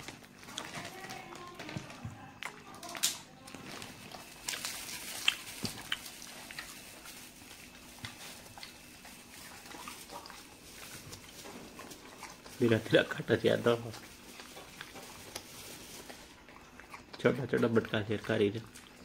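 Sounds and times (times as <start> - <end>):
dog crunching food: 0.0 - 19.0.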